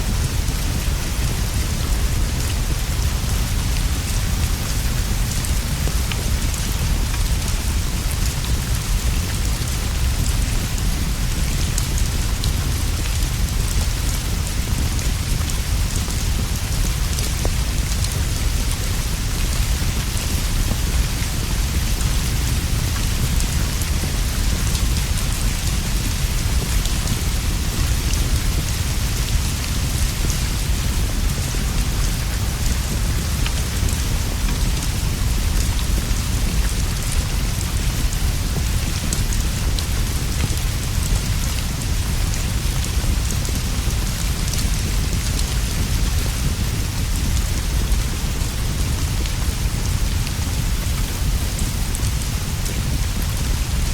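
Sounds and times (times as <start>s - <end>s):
rain on leaves and roof: 0.0s - 53.9s.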